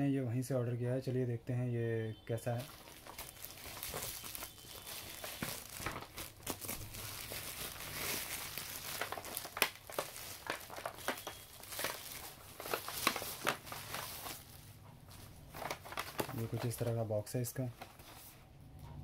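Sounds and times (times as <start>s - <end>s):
bubble wrap crinkling and crackling: 2.3s - 18.4s.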